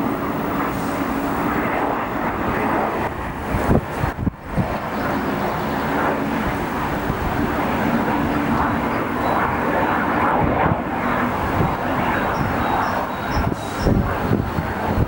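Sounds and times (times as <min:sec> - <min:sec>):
jet engine rushing rumble: 0:00.0 - 0:15.0.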